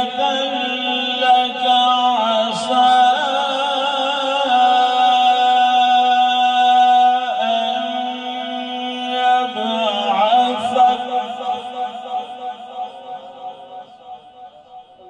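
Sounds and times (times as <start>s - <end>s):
man reciting melodically: 0.0s - 14.8s.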